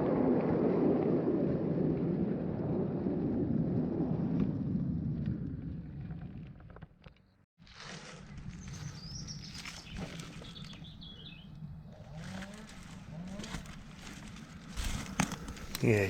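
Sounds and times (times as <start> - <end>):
low rumbling noise: 0.0 - 6.7, 8.2 - 16.0.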